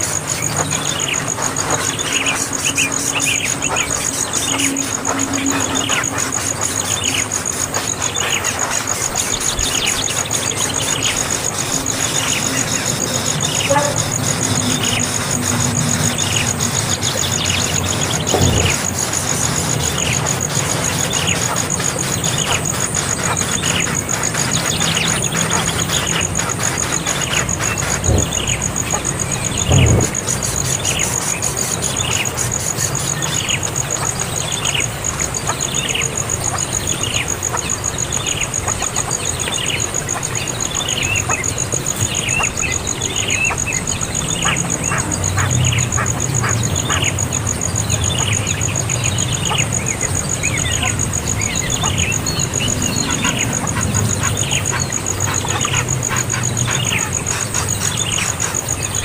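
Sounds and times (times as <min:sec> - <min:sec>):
high-pitched pulsing whine: 0:00.0 - 0:59.0.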